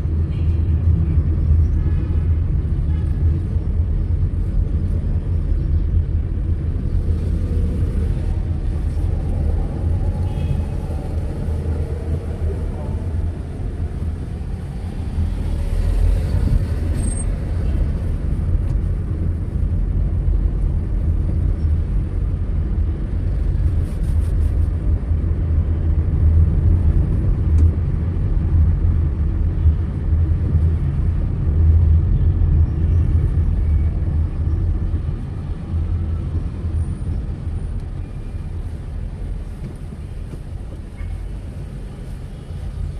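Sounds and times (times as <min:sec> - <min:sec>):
car driving on road: 0:00.0 - 0:42.9.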